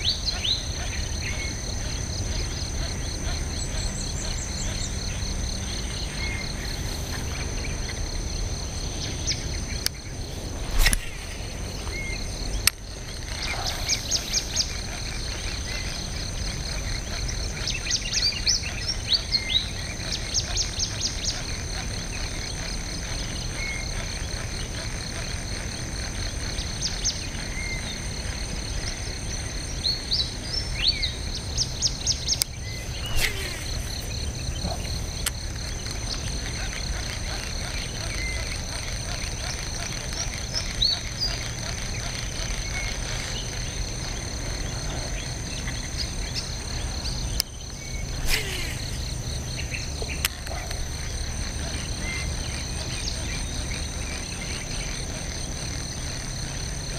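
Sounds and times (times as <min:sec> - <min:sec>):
birds chirping trills: 0:00.0 - 0:56.9
high insect drone: 0:00.0 - 0:56.9
low rumbling background: 0:00.0 - 0:56.9.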